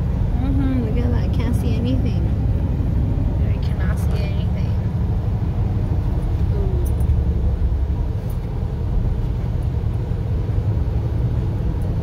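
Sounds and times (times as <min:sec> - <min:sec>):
road noise from tyres: 0:00.0 - 0:12.0.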